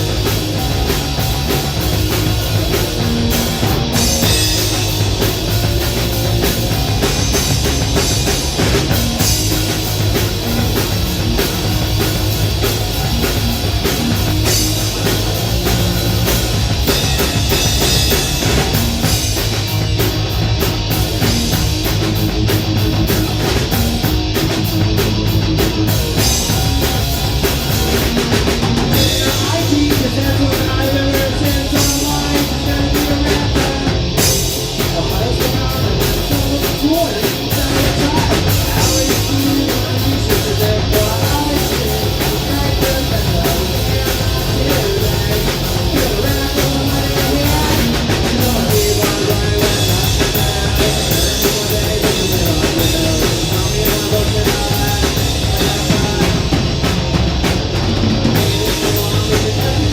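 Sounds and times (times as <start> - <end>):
distorted electric guitars: 0.0 - 59.9
pounding drum kit: 0.0 - 59.9.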